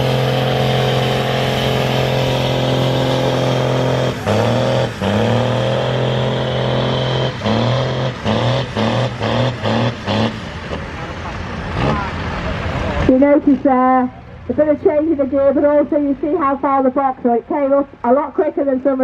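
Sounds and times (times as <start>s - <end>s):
tractor engine at full throttle: 0.0s - 15.8s.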